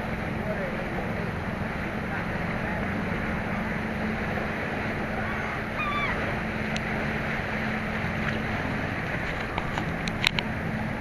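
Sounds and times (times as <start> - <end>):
surf washing: 0.0 - 11.0.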